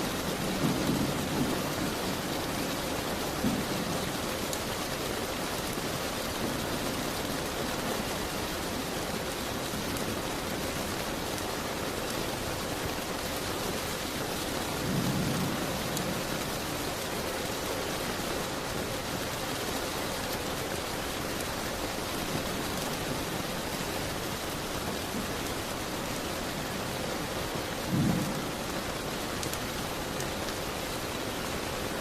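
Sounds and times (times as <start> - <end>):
rain beating on a window: 0.0 - 32.0.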